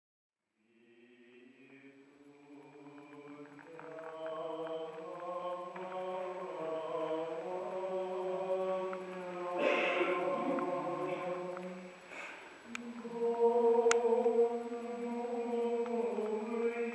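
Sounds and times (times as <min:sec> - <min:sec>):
voices chanting: 0:00.7 - 0:16.9.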